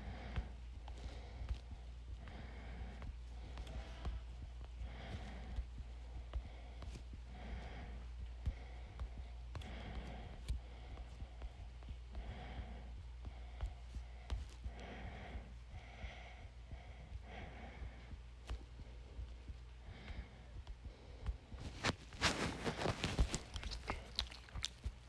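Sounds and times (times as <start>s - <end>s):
low electrical hum: 0.0s - 25.0s
person breathing faintly: 0.0s - 25.0s.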